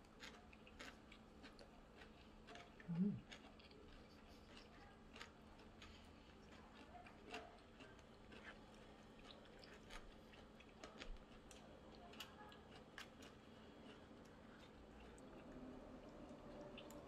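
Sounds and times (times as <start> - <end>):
quiet chewing: 0.0 - 17.0.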